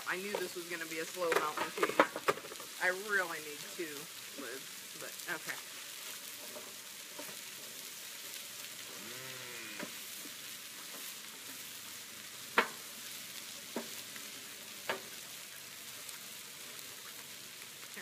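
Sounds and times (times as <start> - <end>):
food sizzling on griddle: 0.0 - 18.0.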